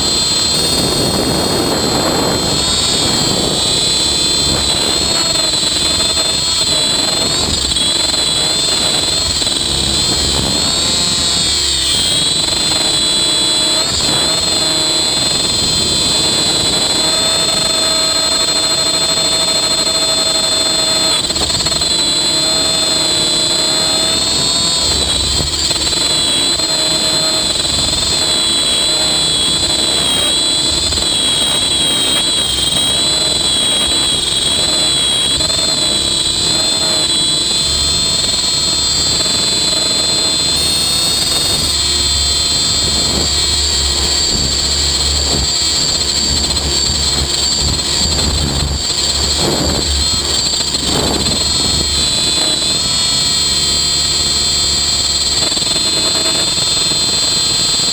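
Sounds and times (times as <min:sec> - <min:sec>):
rc helicopter high-pitched whine: 0:00.0 - 0:57.9
rotor wash and wind rumble: 0:00.0 - 0:57.9.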